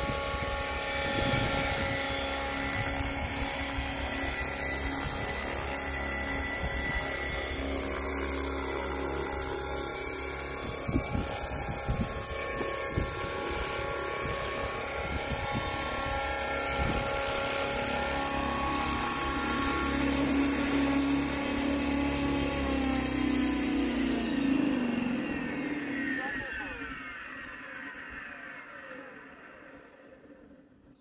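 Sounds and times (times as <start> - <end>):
rc helicopter motor whining: 0.0 - 31.0.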